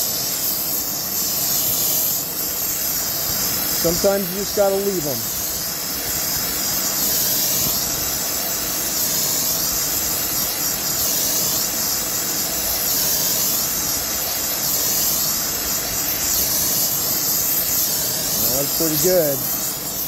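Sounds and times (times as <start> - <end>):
gas torch flame hissing: 0.0 - 20.0.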